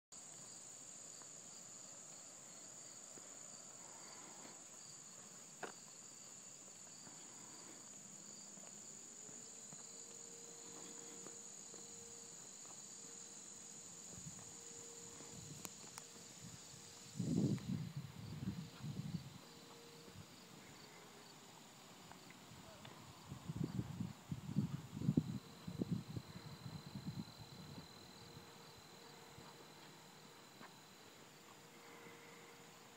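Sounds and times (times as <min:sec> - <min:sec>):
insects trilling: 0:00.2 - 0:32.9.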